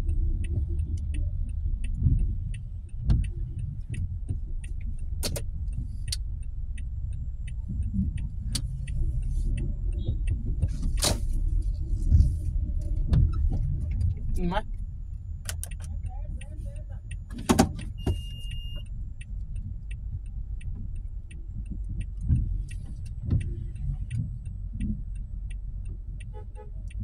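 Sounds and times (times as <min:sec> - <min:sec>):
low vehicle rumble: 0:00.0 - 0:27.0
sharp clicks and knocks: 0:00.0 - 0:27.0.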